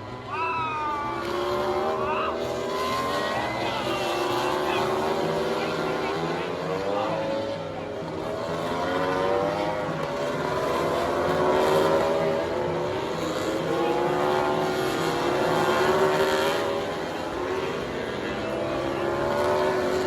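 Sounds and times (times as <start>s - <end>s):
racing motorcycles passing: 0.0s - 20.0s.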